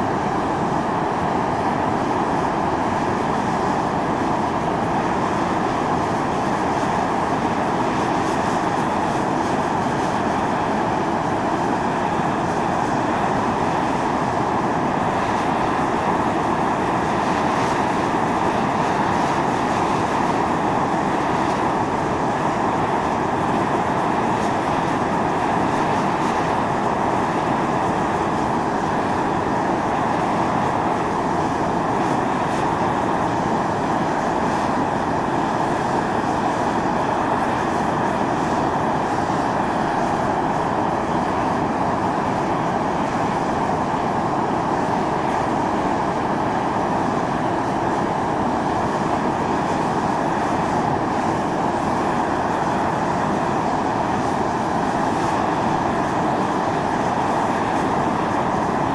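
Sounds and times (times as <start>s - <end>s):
steam hissing from vent: 0.0s - 58.9s.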